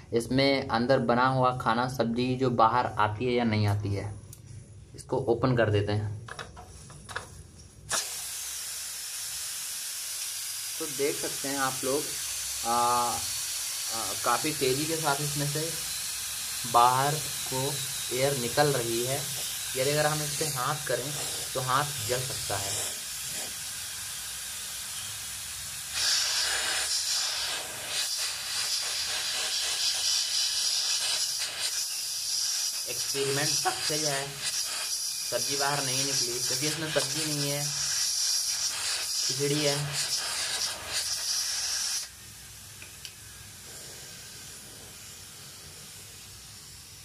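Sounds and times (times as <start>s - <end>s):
steam hissing from pressure cooker: 7.9s - 47.0s.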